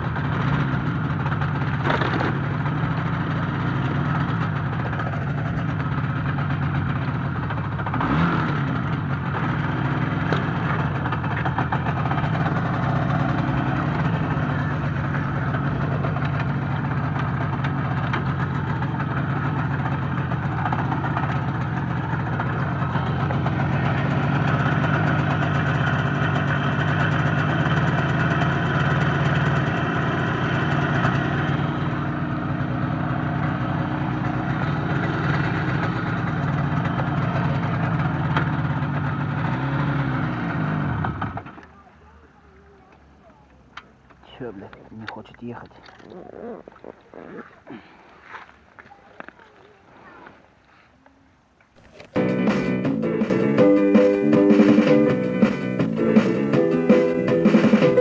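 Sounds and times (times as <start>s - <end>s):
motorcycle engine running: 0.0s - 44.4s, 51.8s - 58.0s.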